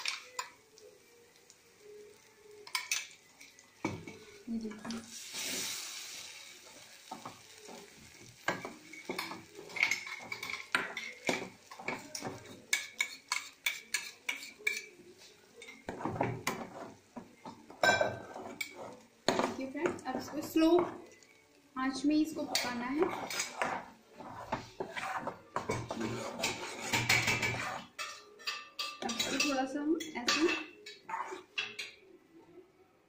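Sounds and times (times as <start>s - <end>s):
sizzling hiss: 0.0s - 27.9s
ladle stirring and scraping pan: 2.6s - 21.3s, 21.9s - 32.0s.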